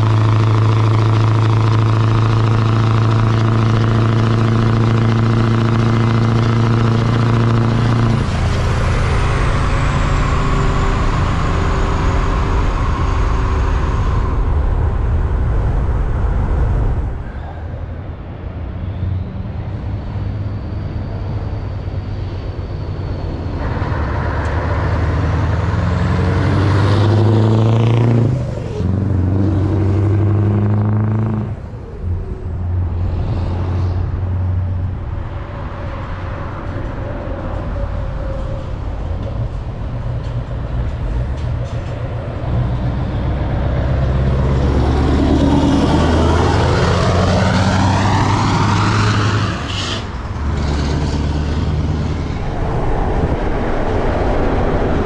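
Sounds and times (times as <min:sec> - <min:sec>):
truck engine running: 0:00.0 - 0:17.3, 0:20.0 - 0:55.0
truck approaching changing gear: 0:00.0 - 0:17.7, 0:19.0 - 0:55.0.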